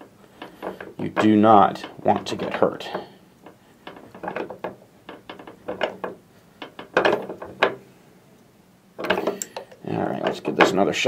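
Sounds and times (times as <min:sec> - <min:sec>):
metal clicks and rattles: 0:00.0 - 0:07.8, 0:09.0 - 0:11.0
metal knocks: 0:00.0 - 0:07.8, 0:09.0 - 0:11.0.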